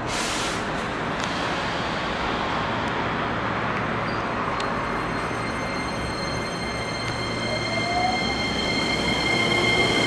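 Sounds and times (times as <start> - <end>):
electric train running noise: 0.6 - 10.0.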